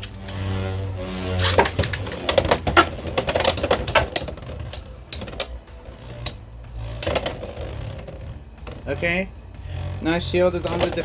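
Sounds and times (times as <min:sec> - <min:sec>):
spinning tops clacking: 0:00.0 - 0:11.0.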